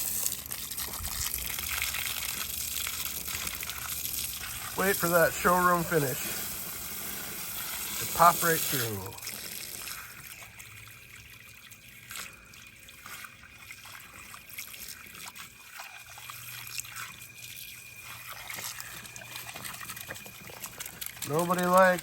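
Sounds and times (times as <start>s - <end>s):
small water splashes: 0.0s - 22.0s
water trickling and dripping: 0.0s - 22.0s.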